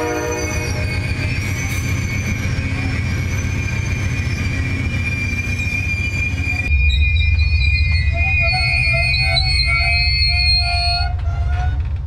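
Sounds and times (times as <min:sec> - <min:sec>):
train low rumble: 0:00.0 - 0:12.0
train wheels squealing on rails: 0:00.0 - 0:12.0.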